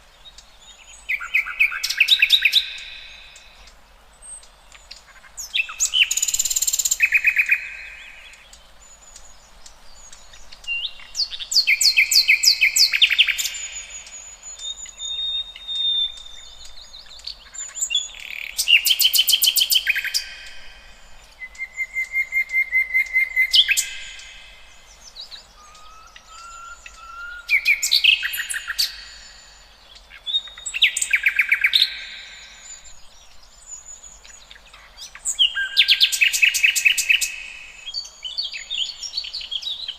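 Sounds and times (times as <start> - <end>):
soft bird chirps: 0.0 - 39.9
songbird trills: 0.0 - 39.9.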